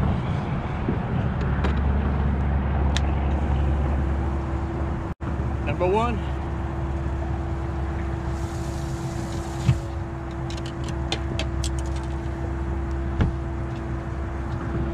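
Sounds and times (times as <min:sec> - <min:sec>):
low mechanical hum with tone: 0:00.0 - 0:14.9.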